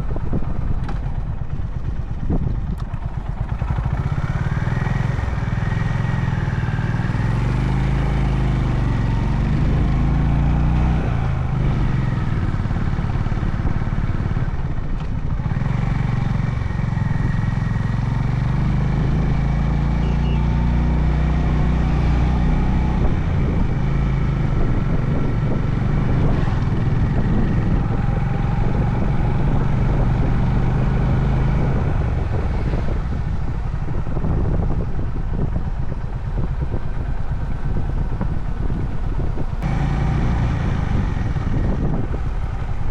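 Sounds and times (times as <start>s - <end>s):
motorcycle engine running: 0.0s - 42.9s
road and wind noise: 0.0s - 42.9s.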